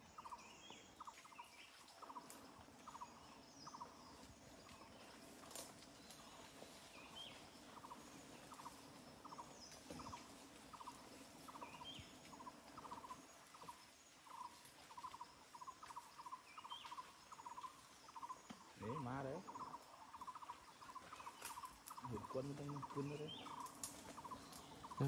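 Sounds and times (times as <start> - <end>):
small animal pulsed calls: 0.0 - 25.0.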